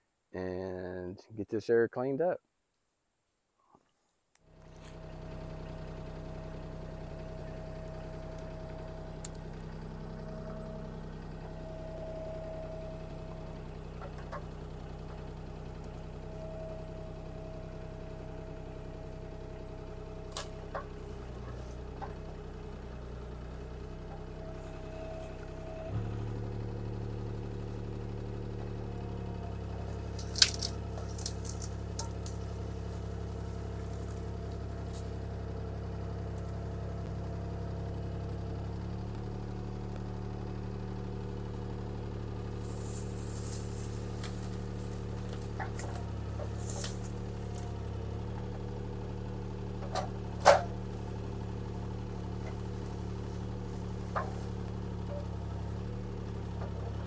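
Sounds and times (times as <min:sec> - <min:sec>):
diesel engine running: 0:04.5 - 0:57.0.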